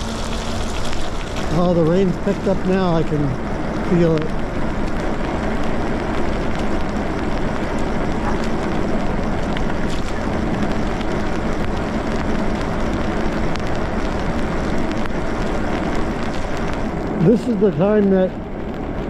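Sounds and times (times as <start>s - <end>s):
faint steady hum: 0.0s - 19.0s
tyres on wet pavement: 0.0s - 19.0s.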